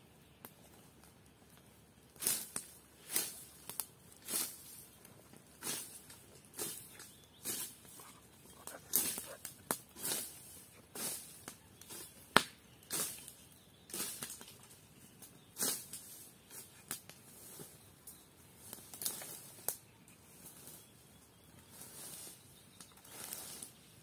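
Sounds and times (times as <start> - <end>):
campfire crackling: 0.0 - 20.8
brush rustling: 0.6 - 24.0.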